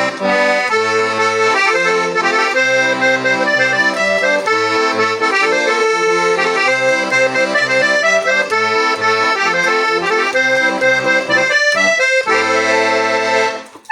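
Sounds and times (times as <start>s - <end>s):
accordion playing: 0.0s - 13.9s.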